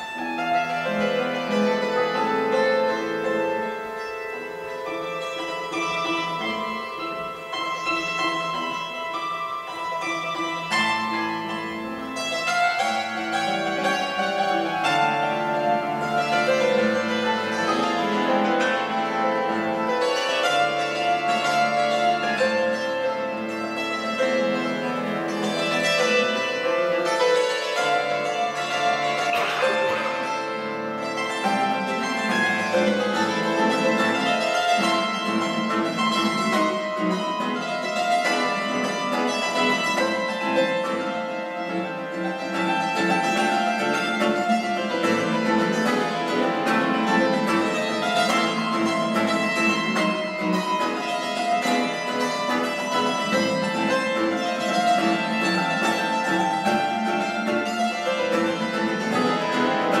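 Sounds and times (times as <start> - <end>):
hammered dulcimer notes: 0.0 - 60.0
plucked classical guitar: 0.0 - 60.0.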